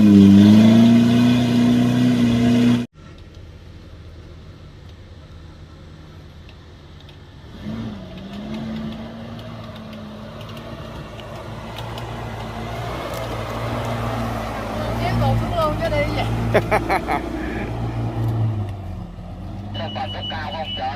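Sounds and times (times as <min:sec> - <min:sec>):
car engine running: 0:00.0 - 0:20.1.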